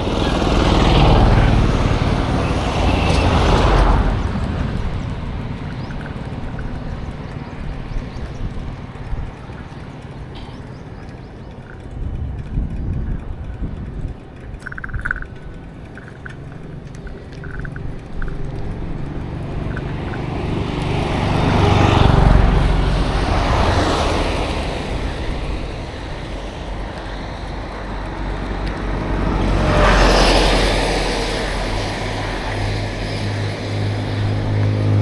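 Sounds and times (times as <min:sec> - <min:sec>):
motor vehicles passing: 0:00.0 - 0:35.0.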